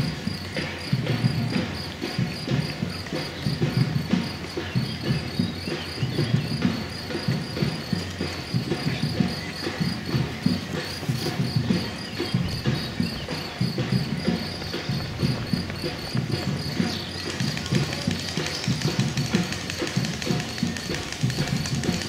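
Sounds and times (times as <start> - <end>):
cricket chirping: 0.0 - 22.0
runners' footsteps on pavement: 0.0 - 22.0.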